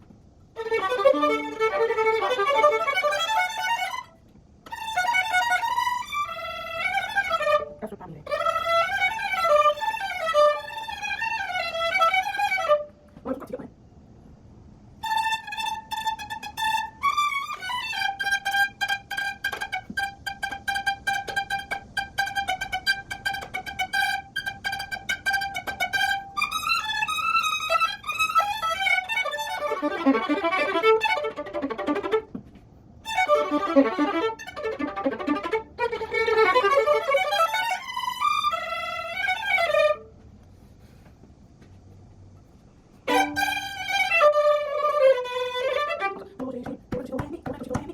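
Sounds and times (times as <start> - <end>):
solo violin playing: 0.0 - 13.0, 15.0 - 40.2, 43.0 - 47.9.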